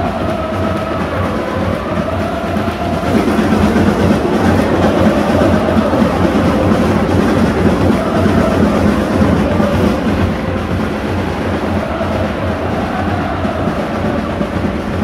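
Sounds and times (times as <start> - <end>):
crowd chanting and singing: 0.0 - 15.0.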